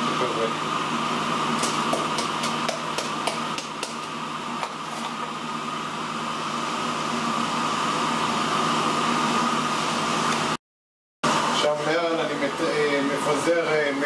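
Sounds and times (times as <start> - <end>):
fan humming with high whine: 0.0 - 10.6, 11.2 - 14.0.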